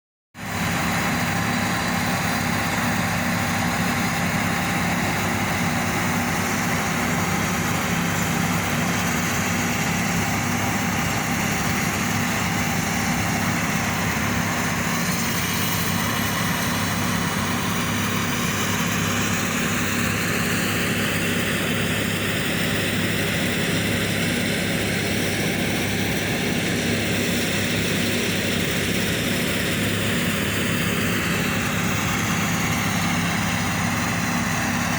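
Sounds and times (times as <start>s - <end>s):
excavator diesel engine running: 0.4s - 34.9s.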